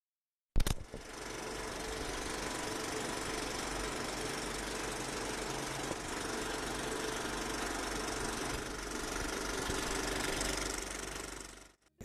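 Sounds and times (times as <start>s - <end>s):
film projector whirring and clattering: 0.6s - 11.8s.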